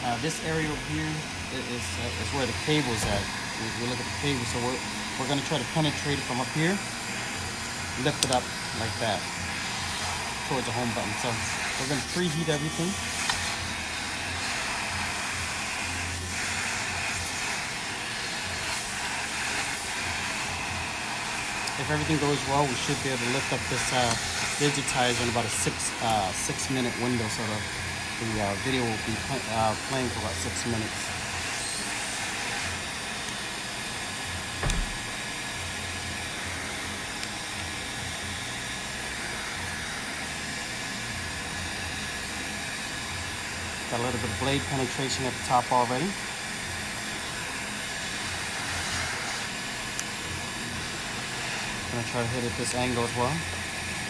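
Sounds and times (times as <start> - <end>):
heat gun blowing hiss: 0.0 - 54.0.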